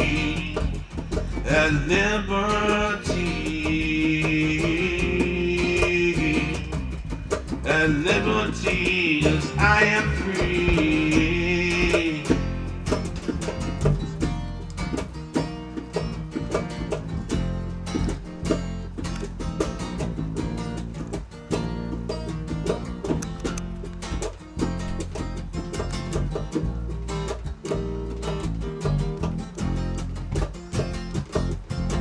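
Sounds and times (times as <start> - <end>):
guitar-led band playing: 0.0 - 32.0.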